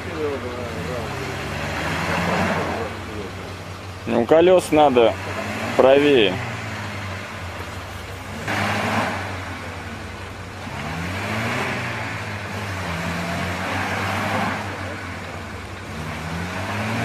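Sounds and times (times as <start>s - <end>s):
off-road engine revving: 0.0s - 17.0s.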